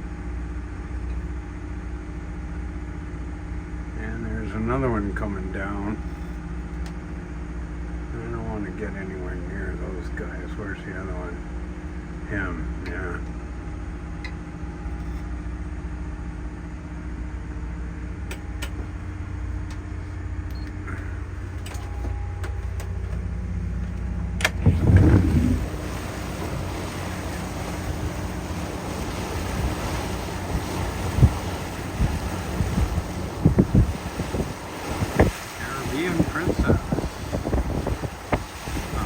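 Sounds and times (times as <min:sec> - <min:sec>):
boat engine droning: 0:00.0 - 0:39.0
wind and water noise: 0:00.0 - 0:39.0.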